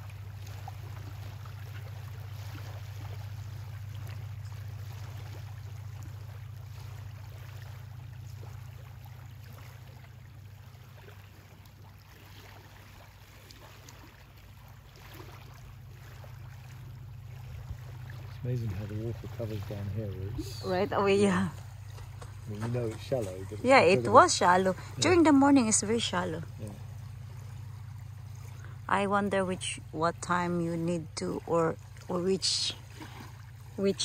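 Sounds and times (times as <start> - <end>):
boat engine humming: 0.0 - 34.0
faint wind and water hiss: 0.0 - 34.0.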